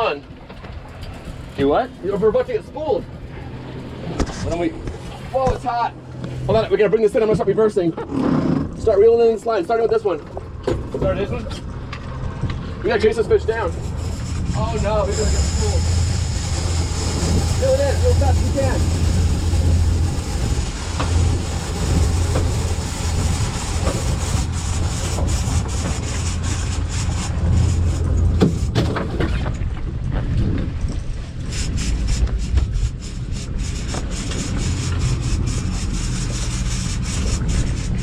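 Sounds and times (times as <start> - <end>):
boat engine rumbling: 0.0 - 38.0
water and wind noise: 0.0 - 38.0.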